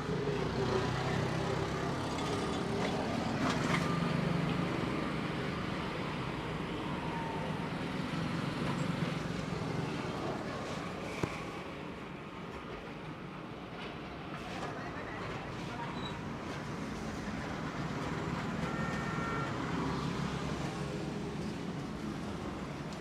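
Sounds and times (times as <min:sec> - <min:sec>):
road traffic rumble: 0:00.0 - 0:12.5, 0:15.2 - 0:23.0.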